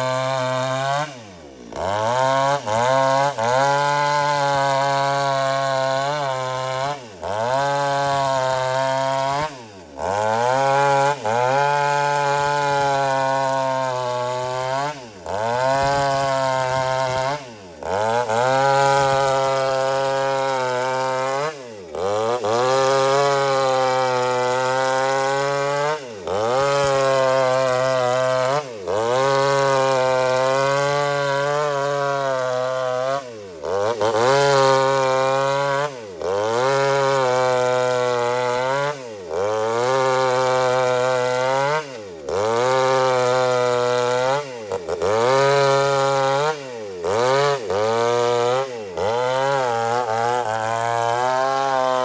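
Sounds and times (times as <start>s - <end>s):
chainsaw cutting through log: 0.0s - 52.0s.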